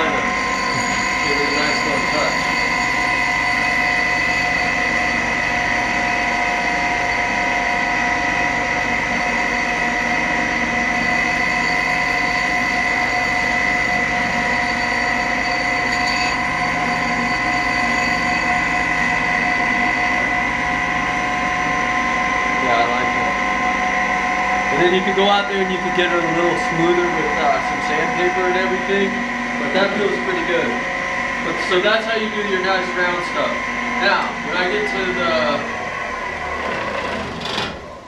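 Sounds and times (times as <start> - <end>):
electric motor whining: 0.0 - 23.4, 24.1 - 38.0.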